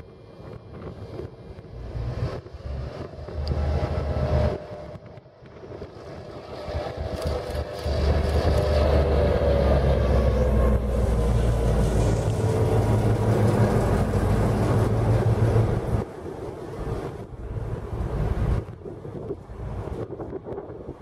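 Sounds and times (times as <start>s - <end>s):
diesel locomotive passing: 0.0s - 21.0s
wind buffeting microphone: 0.0s - 21.0s.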